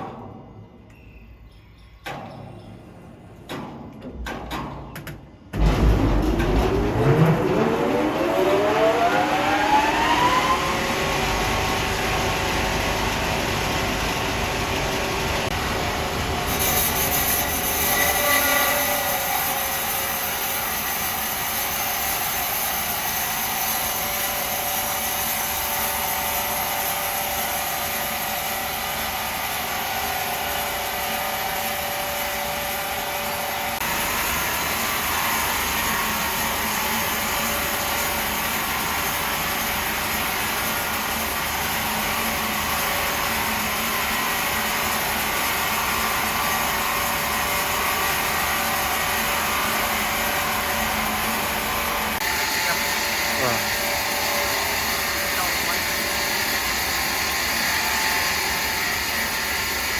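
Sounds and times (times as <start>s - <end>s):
sawmill saw whining: 5.6s - 59.9s.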